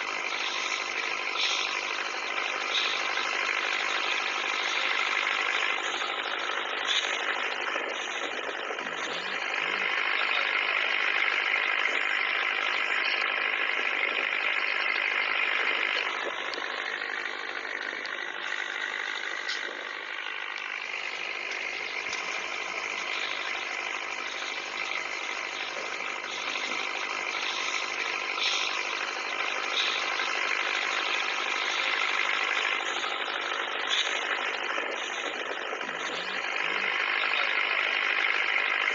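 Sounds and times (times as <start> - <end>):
toy steam boats puttering: 0.0 - 38.9.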